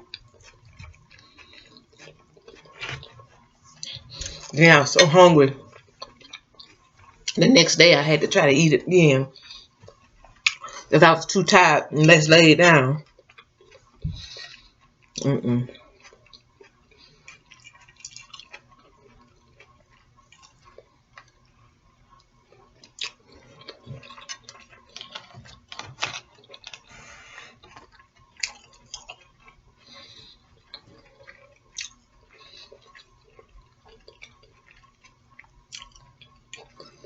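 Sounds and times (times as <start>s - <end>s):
chewing with wet mouth clicks: 0.0s - 7.4s, 9.3s - 10.9s, 13.0s - 37.0s.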